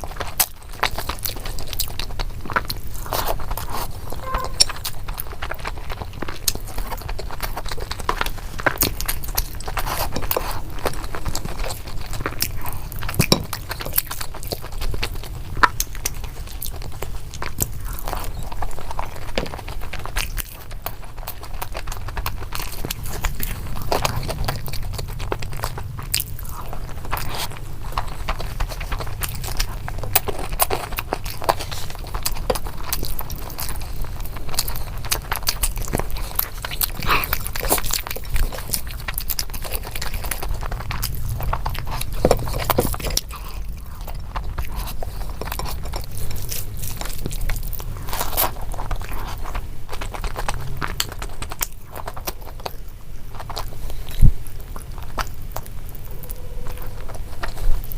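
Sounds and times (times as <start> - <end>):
person chewing crunchy food: 0.0 - 57.9
steady low hum: 0.0 - 57.9.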